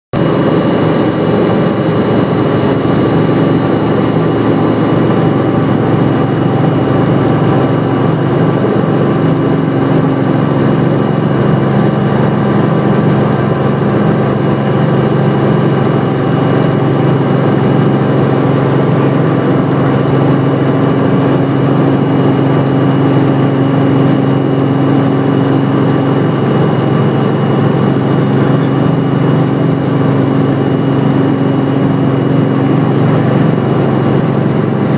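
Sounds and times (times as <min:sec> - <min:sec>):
helicopter engine and rotor drone: 0:00.1 - 0:34.9.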